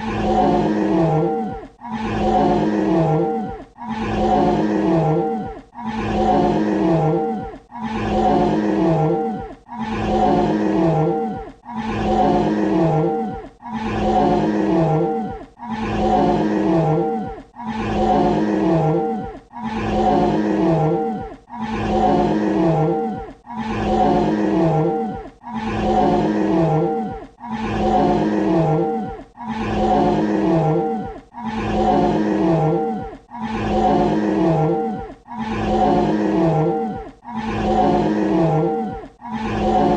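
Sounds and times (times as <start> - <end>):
dinosaur growling roar: 0.0 - 39.9.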